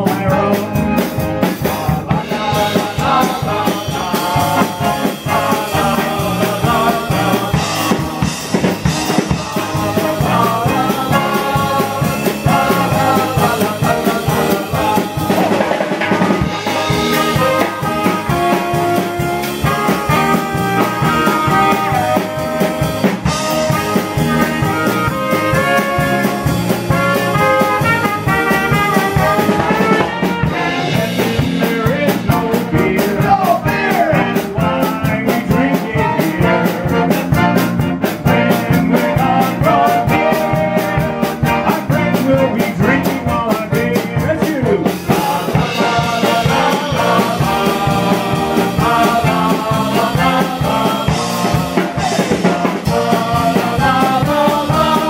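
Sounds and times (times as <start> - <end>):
trumpet melody: 0.0 - 43.7, 45.0 - 55.0
drum kit: 0.0 - 55.0
electric bass: 0.0 - 55.0.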